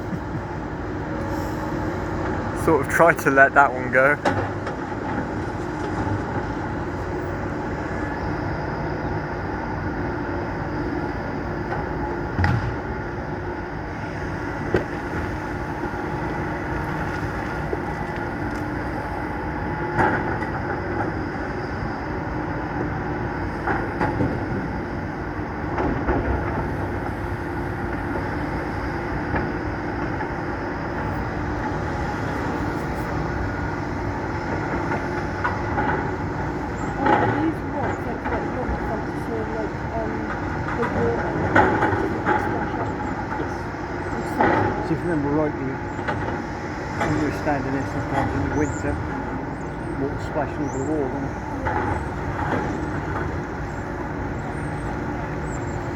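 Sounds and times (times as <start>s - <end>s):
excavator diesel engines running: 0.0s - 55.9s.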